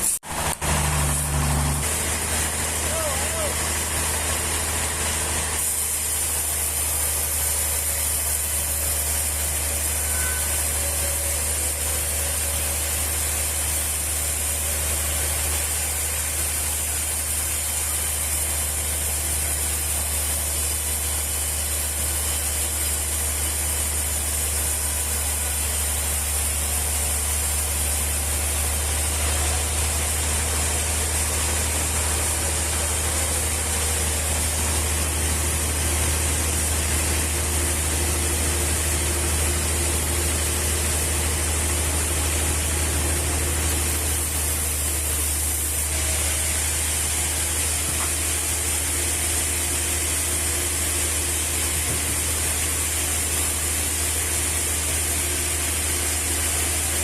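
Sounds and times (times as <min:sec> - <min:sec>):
sawmill machinery hum: 0:00.0 - 0:57.0.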